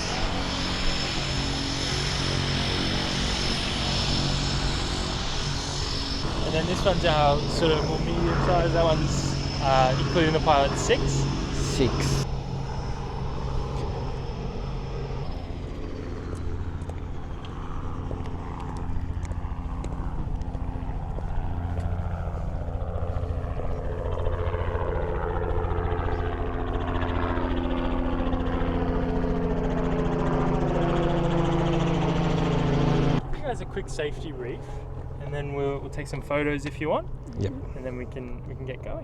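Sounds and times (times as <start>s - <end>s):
helicopter engine and rotors: 0.0s - 39.0s.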